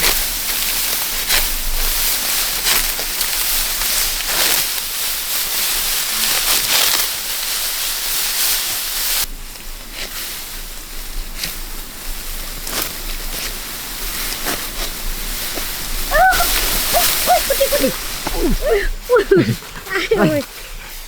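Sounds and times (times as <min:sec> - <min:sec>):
rice plants rustling and swishing: 0:00.0 - 0:21.0.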